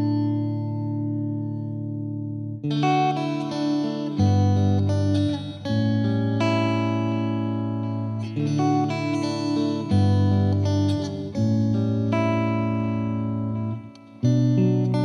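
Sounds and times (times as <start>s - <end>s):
plucked string chords: 0.0s - 15.0s.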